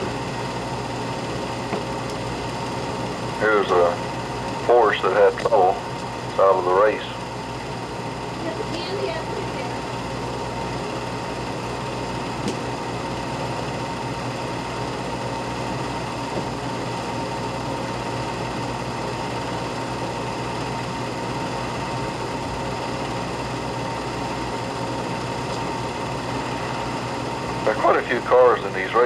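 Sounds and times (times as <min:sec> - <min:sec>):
film projector running: 0:00.0 - 0:29.0.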